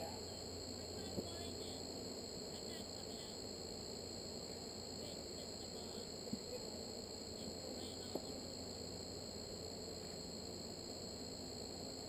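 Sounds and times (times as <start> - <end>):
crickets chirring: 0.0 - 12.0
low even hum: 0.0 - 12.0.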